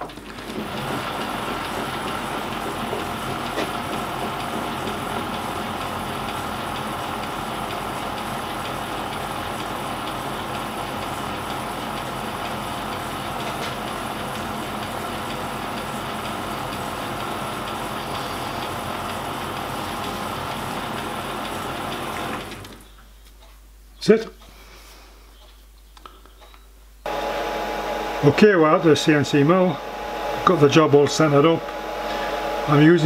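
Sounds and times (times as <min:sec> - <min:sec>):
metal lathe cutting: 0:00.6 - 0:22.6, 0:27.1 - 0:33.0.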